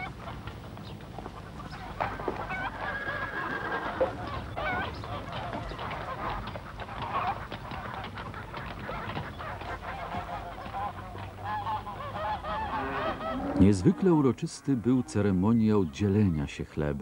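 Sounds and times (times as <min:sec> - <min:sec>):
geese honking: 0:01.2 - 0:16.2.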